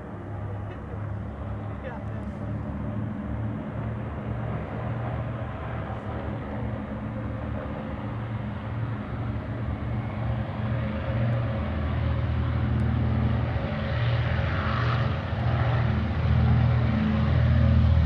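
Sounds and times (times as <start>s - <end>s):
propeller plane engines: 0.0s - 18.0s.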